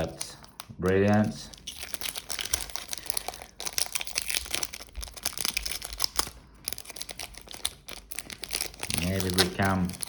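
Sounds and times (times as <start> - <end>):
foil pack tearing: 0.0 - 10.0
foil wrapper crinkling: 0.0 - 10.0.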